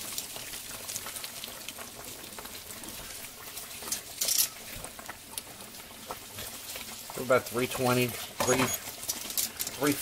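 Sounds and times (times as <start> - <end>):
hot oil frying crackling: 0.0 - 10.0.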